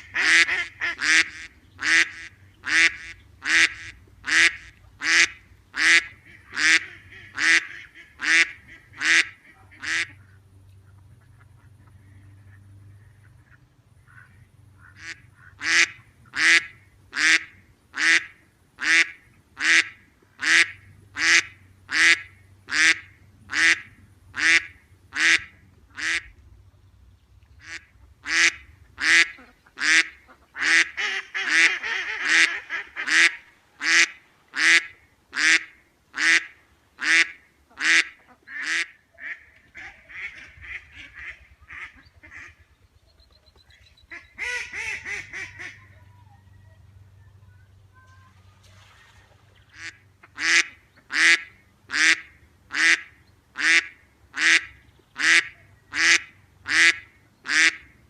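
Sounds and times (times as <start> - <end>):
duck quacking: 0.0 - 26.4, 27.6 - 42.7, 44.1 - 46.2, 49.7 - 58.0.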